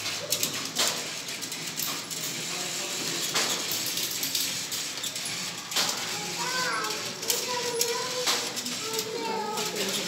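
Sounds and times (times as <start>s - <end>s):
toy train clattering on track: 0.0s - 10.0s.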